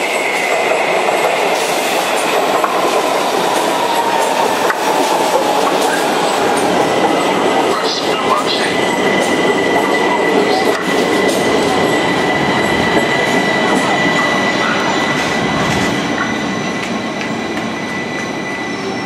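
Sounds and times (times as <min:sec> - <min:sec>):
high whine of train: 0:00.0 - 0:19.0
subway train rumbling: 0:00.0 - 0:19.0.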